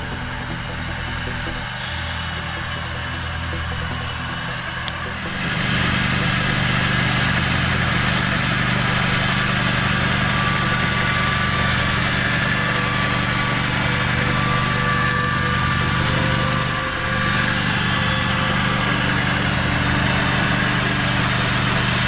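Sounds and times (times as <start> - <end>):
mower engine running: 0.0 - 22.0.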